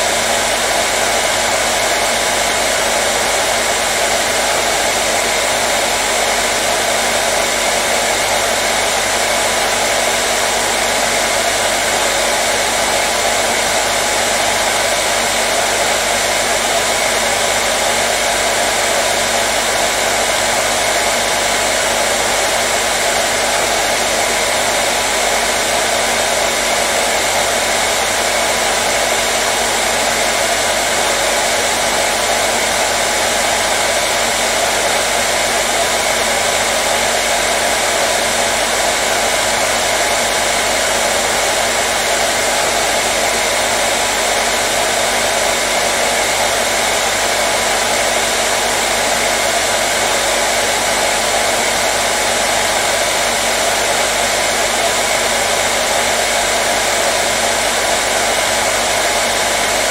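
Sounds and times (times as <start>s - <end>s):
hair dryer blowing air: 0.0s - 59.9s.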